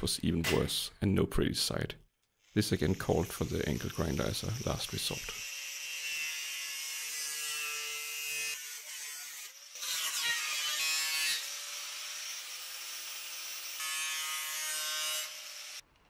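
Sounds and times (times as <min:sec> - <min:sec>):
angle grinder cutting sheet steel: 0:02.4 - 0:15.8.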